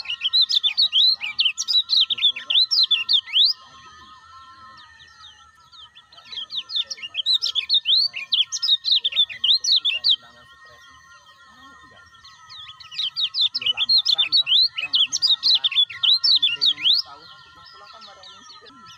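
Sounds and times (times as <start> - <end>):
bird chattering chirps: 0.0 - 4.0, 4.7 - 10.4, 12.0 - 18.9
faint steady high tones: 0.0 - 18.9.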